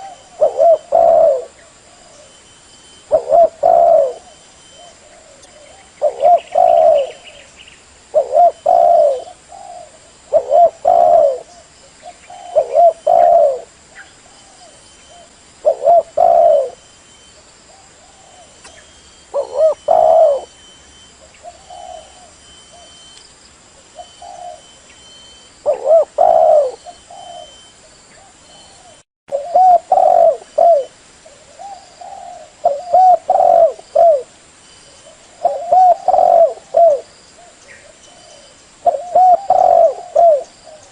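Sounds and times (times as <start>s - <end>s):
dove cooing: 0.0s - 7.5s, 8.1s - 16.9s, 17.7s - 23.0s, 23.9s - 34.3s, 34.9s - 40.9s.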